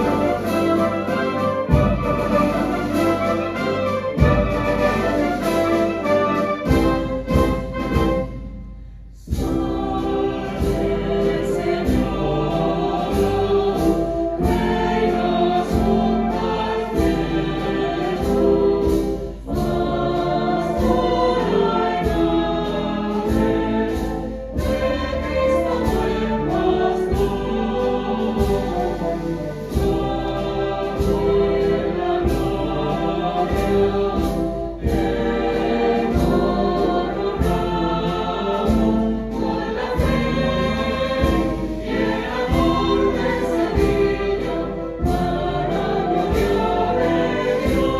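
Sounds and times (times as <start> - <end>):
choir singing a hymn: 0.0 - 8.6, 9.2 - 47.9
wind band chords: 0.0 - 47.9.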